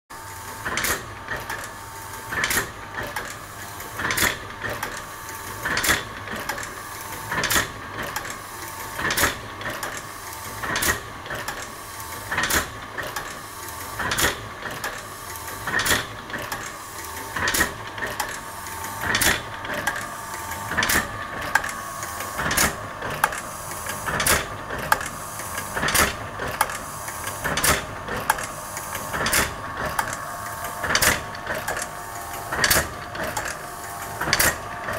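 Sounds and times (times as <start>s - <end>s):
printing press clacking: 0.6s - 34.9s.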